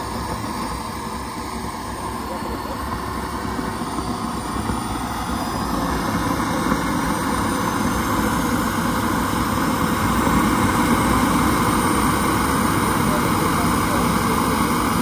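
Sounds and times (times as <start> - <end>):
jet turbine running: 0.0 - 15.0.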